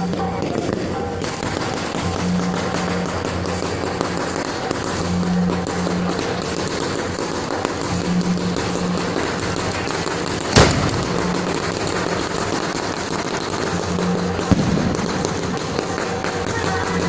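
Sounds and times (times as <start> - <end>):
firework bangs: 0.0 - 17.0
fireworks fountain crackling hiss: 0.0 - 17.0.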